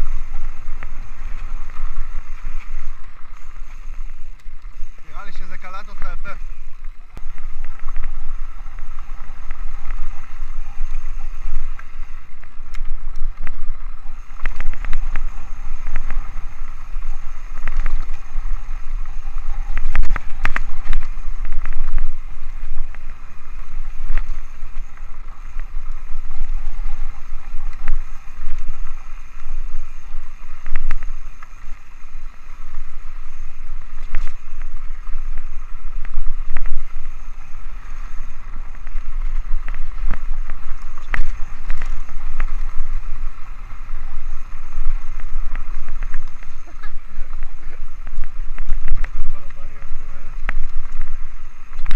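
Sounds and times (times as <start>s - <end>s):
bike rattling over bumps: 0.0s - 51.9s
wind buffeting microphone: 0.0s - 51.9s.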